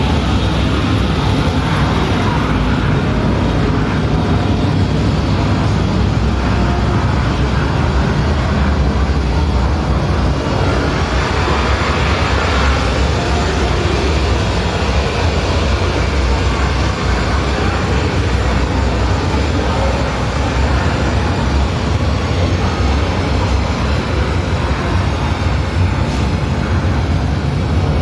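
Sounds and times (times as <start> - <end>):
constant low hum: 0.0 - 28.0
jet engine noise over loudspeakers: 0.0 - 28.0.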